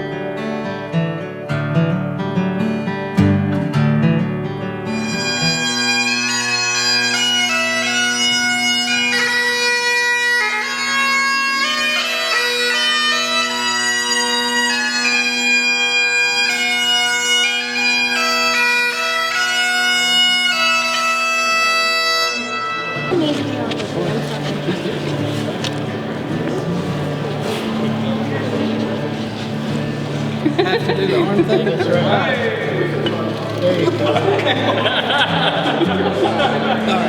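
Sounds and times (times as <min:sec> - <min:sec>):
bagpipes playing a tune: 0:04.8 - 0:37.0.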